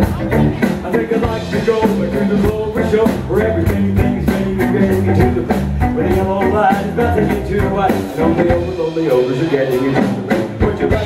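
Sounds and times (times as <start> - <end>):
drum kit steady beat: 0.0 - 11.0
electric bass: 0.0 - 11.0.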